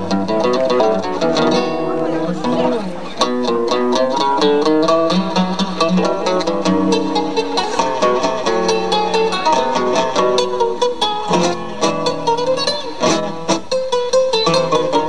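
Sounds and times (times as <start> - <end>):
acoustic guitar tango: 0.0 - 15.0.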